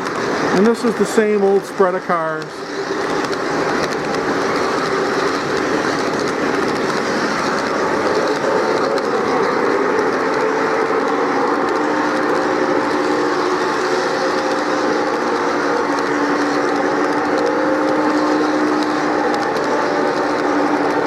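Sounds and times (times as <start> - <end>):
model train wheels clattering: 0.0 - 21.0
steady humming tones: 0.0 - 21.0.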